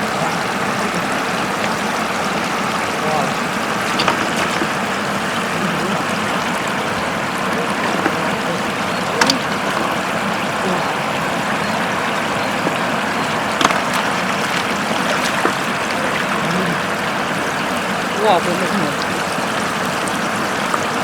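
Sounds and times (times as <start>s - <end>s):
floodwater running: 0.0s - 21.0s.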